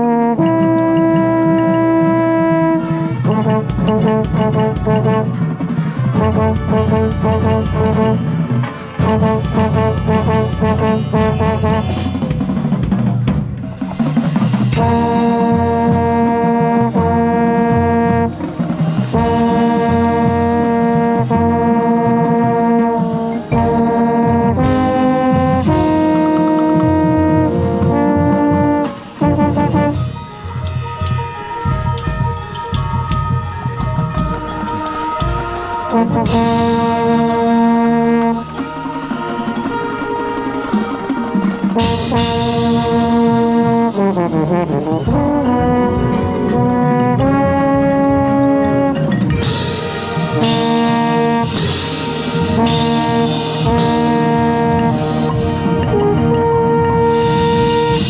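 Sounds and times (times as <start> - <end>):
low brass horn: 0.0 - 13.2, 14.2 - 58.0
drums: 0.0 - 58.0
marching band brass chords: 0.0 - 58.0.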